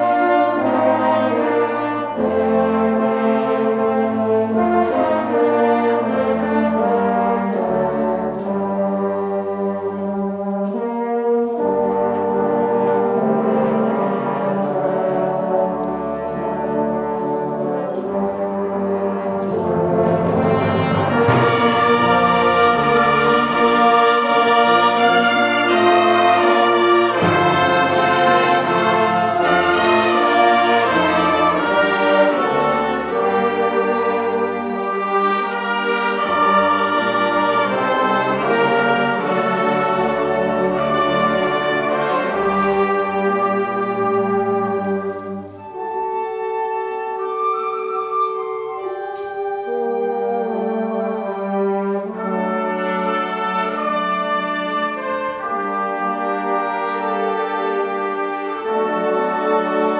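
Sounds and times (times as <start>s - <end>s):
brass band playing a hymn: 0.0s - 59.9s.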